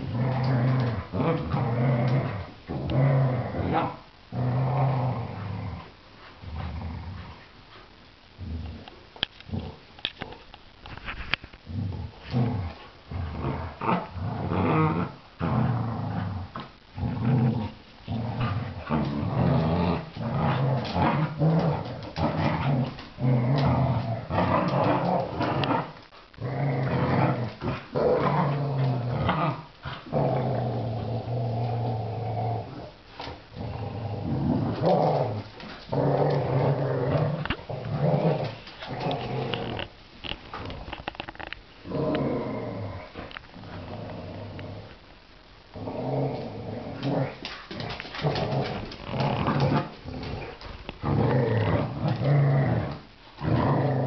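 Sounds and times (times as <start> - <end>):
dogs growling: 0.0 - 7.5, 11.6 - 45.0, 45.7 - 54.0.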